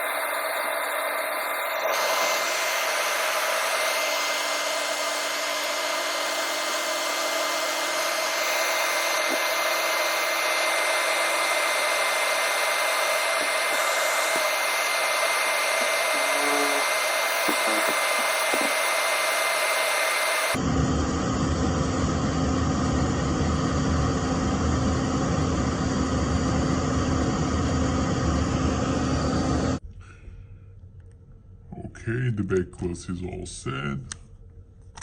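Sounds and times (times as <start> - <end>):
electric blower rushing air: 0.0 - 29.8.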